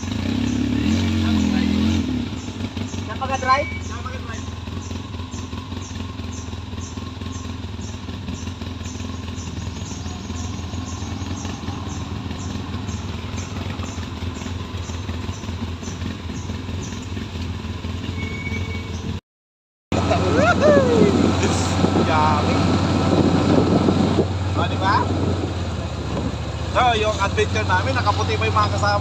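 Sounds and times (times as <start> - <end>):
atv engines running: 0.0 - 19.2, 19.9 - 29.0.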